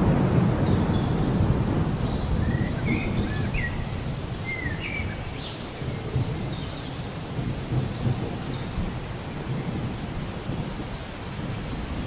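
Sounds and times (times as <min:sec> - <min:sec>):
low rumble of thunder: 0:00.0 - 0:12.0
steady rain: 0:00.0 - 0:12.0.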